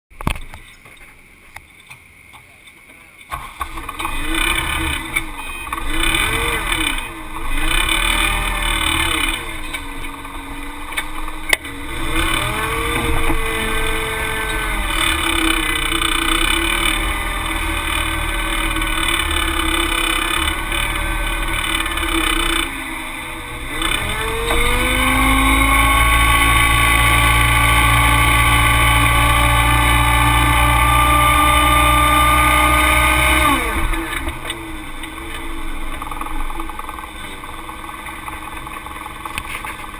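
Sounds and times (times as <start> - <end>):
forklift engine revving: 3.3 - 39.9.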